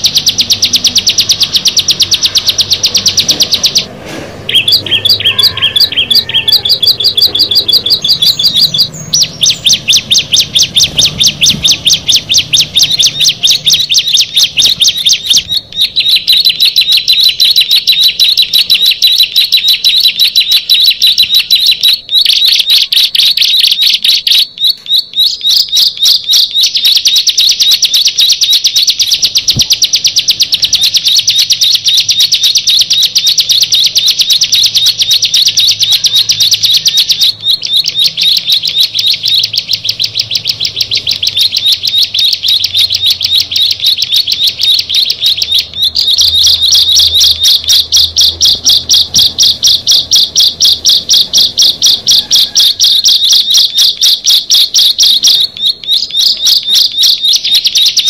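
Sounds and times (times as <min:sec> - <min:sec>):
bird singing high-pitched trill: 0:00.0 - 0:58.0.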